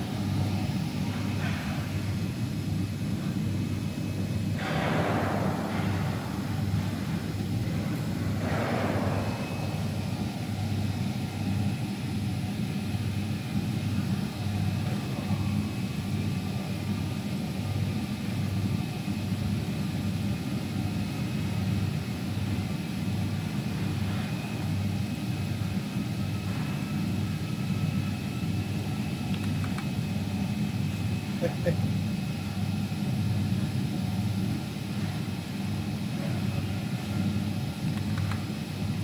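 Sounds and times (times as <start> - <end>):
factory machinery humming: 0.0 - 39.0.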